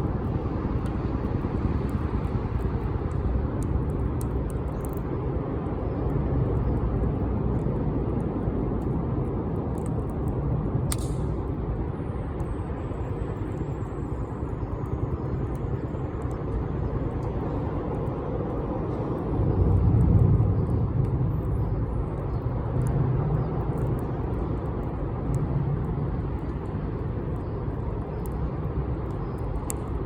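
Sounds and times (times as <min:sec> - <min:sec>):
fire crackles and pops: 0:00.0 - 0:30.0
wood fire burning: 0:00.0 - 0:30.0.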